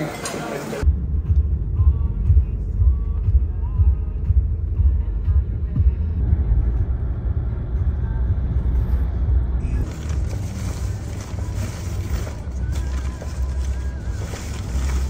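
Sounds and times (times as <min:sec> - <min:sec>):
car driving rumble: 0:00.8 - 0:15.0.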